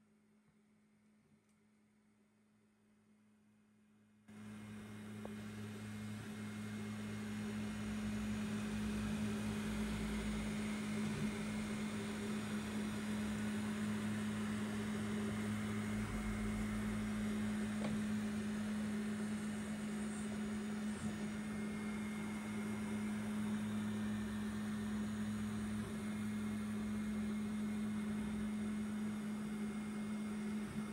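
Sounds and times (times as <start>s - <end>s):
printer fans and motors whirring: 4.3s - 30.9s.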